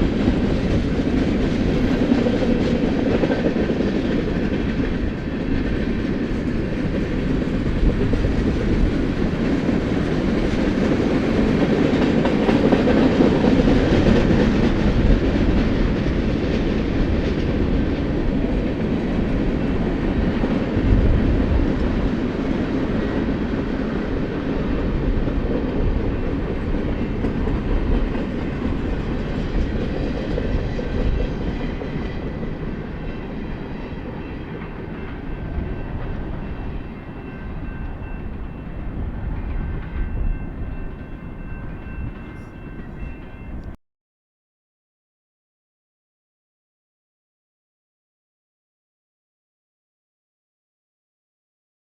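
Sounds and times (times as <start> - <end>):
train wheels clattering on rails: 0.0 - 43.8.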